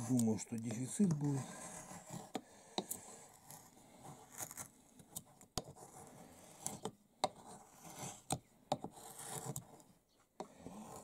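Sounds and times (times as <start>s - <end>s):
gouge scraping wood: 0.0s - 11.0s.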